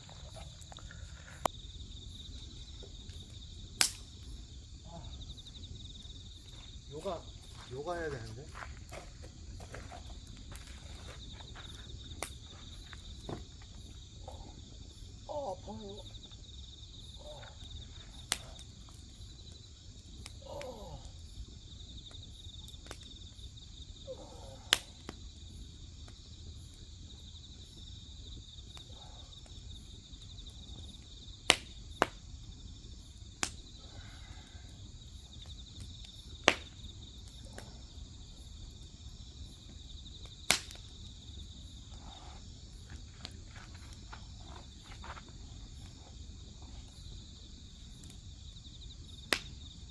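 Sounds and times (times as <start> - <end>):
firewood popping: 0.0 - 49.9
insects chirring: 0.0 - 49.9
wood fire crackling: 0.0 - 49.9.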